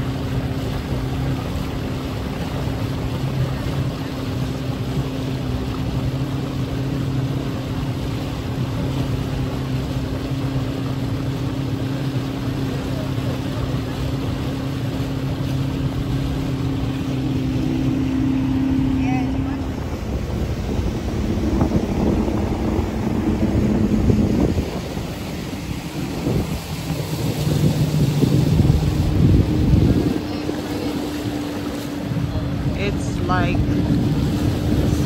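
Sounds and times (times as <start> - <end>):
motorboat engine humming: 0.0 - 35.0
water rushing: 0.0 - 35.0.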